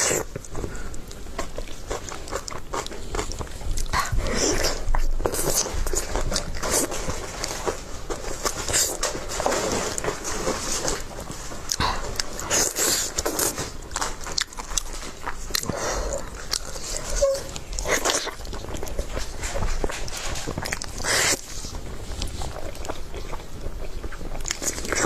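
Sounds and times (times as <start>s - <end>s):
person chewing food: 0.0s - 25.0s.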